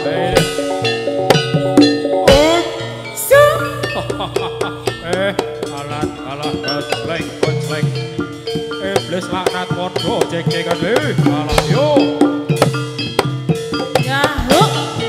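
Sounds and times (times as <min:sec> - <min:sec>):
drums beaten fast: 0:00.0 - 0:15.0
held melody notes: 0:00.0 - 0:15.0
sliding bending pitches: 0:00.0 - 0:15.0.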